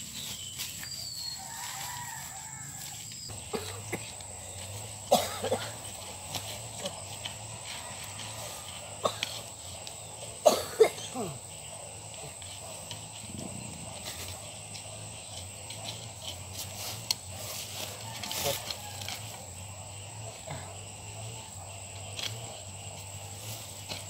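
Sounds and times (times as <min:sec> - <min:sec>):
soil being scraped: 0:00.0 - 0:19.5
vines rustling: 0:00.0 - 0:19.9.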